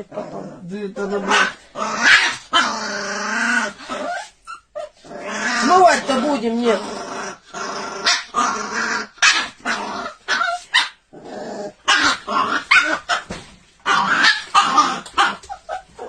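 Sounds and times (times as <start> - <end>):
dog growling: 0.0 - 13.3, 13.9 - 16.0.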